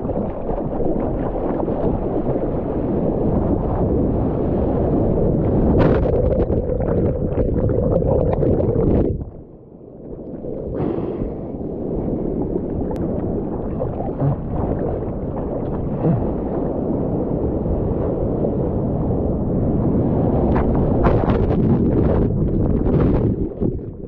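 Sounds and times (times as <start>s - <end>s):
wave splashes: 0.0s - 9.4s, 10.2s - 24.0s
seawater sloshing and rushing: 0.0s - 24.0s.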